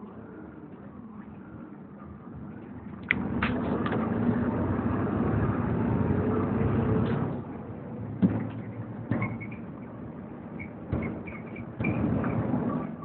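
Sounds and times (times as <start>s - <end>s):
bus diesel engine under load: 0.0s - 13.0s.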